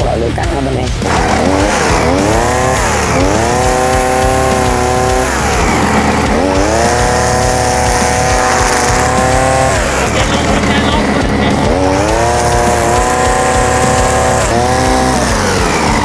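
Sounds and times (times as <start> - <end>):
brush cutter engine revving: 0.0 - 16.0
disc cutting grass and soil: 1.0 - 16.0.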